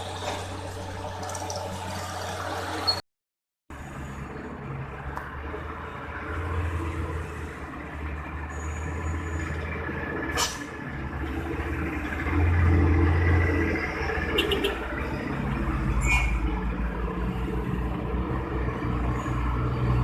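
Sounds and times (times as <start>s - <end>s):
heavy truck engine under load: 0.0s - 2.9s, 3.8s - 20.0s.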